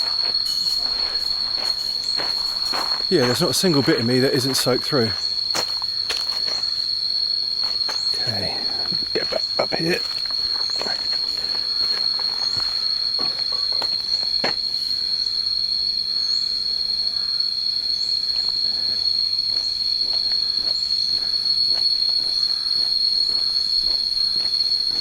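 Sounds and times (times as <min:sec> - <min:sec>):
insects droning high-pitched: 0:00.0 - 0:25.0.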